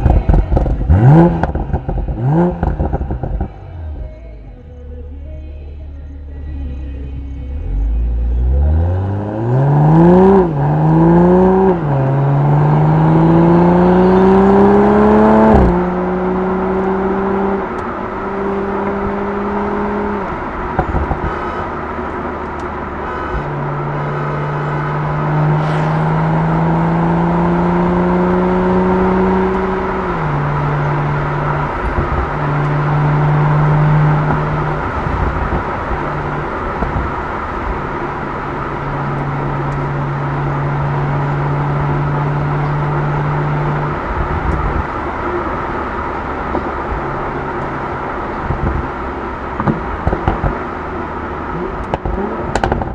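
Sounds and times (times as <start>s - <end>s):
car engine accelerating: 0.0s - 4.3s, 6.1s - 52.9s.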